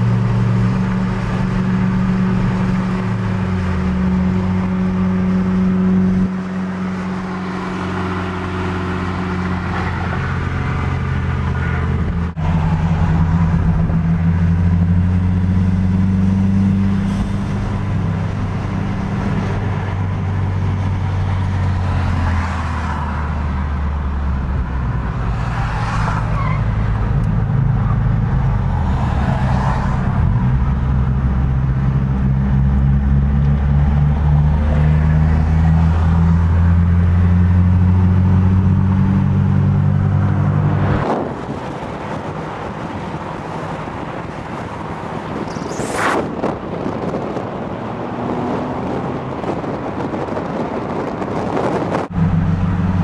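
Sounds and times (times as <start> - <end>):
car engine drone: 0.0 - 53.0
road noise inside car: 0.0 - 53.0.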